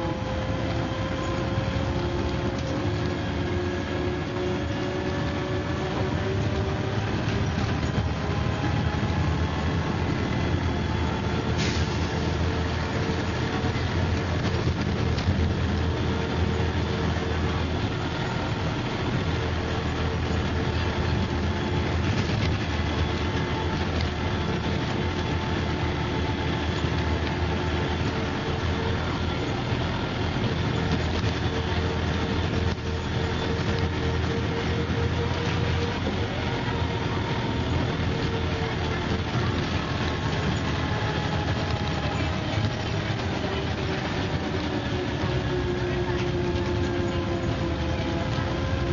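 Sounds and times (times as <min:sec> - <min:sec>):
bus engine rumble: 0:00.0 - 0:48.9
engine whine: 0:00.0 - 0:48.9.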